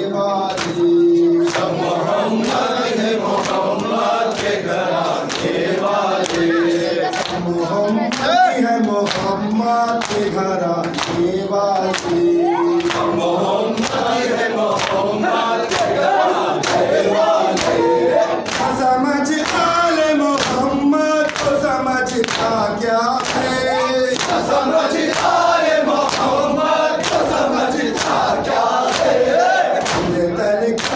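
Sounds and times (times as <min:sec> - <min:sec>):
men chanting over a microphone: 0:00.0 - 0:30.9.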